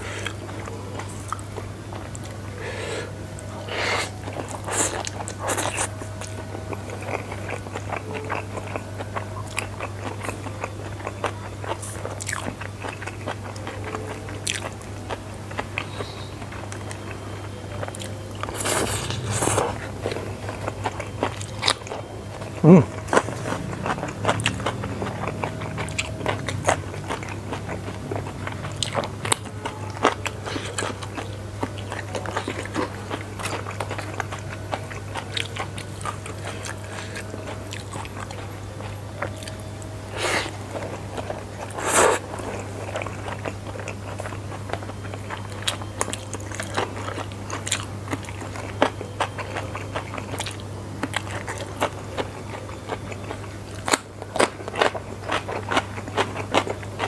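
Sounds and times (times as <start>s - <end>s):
wet chewing of noodles: 0.0s - 57.0s.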